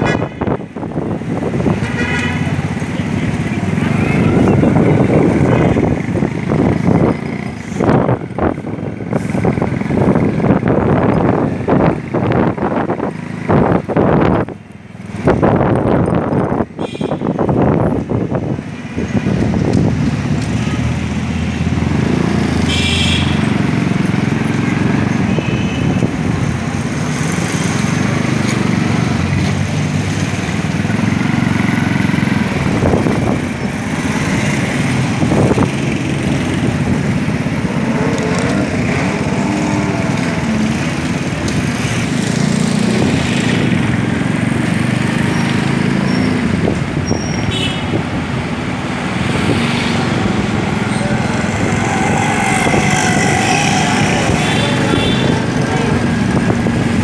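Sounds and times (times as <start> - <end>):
street traffic: 0.0 - 57.0.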